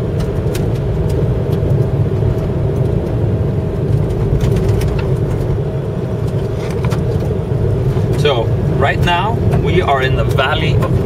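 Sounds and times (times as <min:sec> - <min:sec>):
engine and tyre drone: 0:00.0 - 0:11.0
faint whine: 0:00.0 - 0:11.0.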